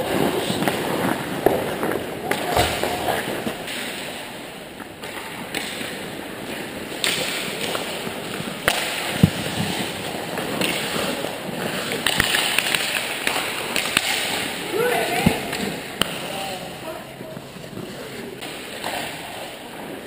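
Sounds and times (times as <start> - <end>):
hockey sticks and puck clacking: 0.0 - 20.0
ice skates scraping on ice: 0.0 - 20.0.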